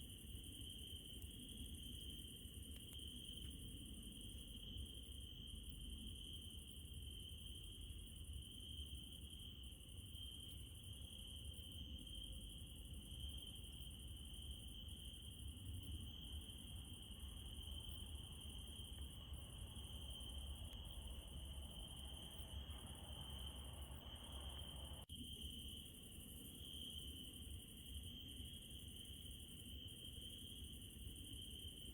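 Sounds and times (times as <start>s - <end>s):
crickets trilling: 0.0s - 31.9s.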